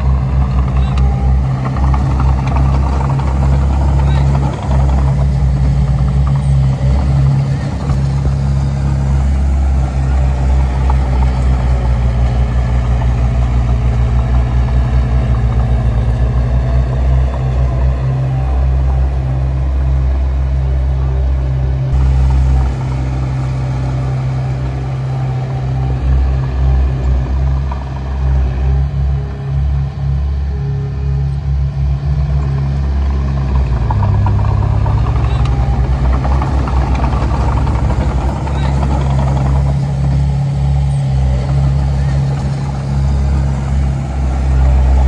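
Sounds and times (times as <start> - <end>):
diesel engine throbbing: 0.0 - 45.0.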